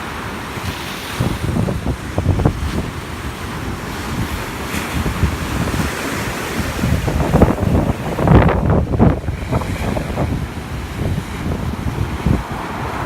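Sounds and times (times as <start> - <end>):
sea surf breaking: 0.0 - 13.0
wind buffeting microphone: 0.0 - 13.0.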